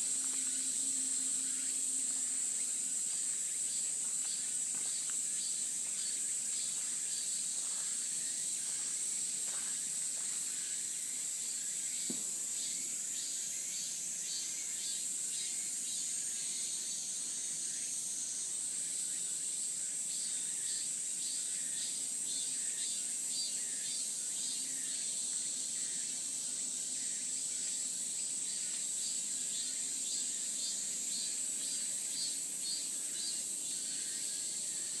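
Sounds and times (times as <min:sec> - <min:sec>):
cicadas buzzing: 0:00.0 - 0:35.0
pulsing insect call: 0:00.0 - 0:35.0.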